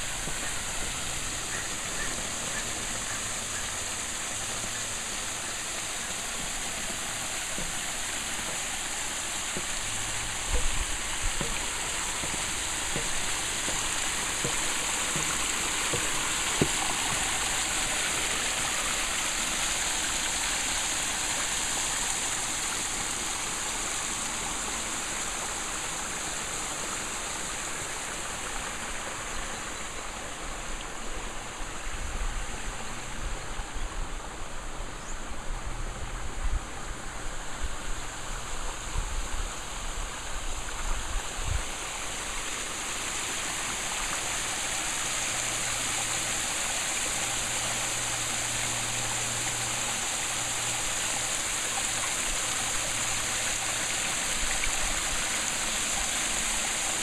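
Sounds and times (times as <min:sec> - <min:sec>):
water splashing over rocks: 0:00.0 - 0:33.3, 0:37.6 - 0:57.0.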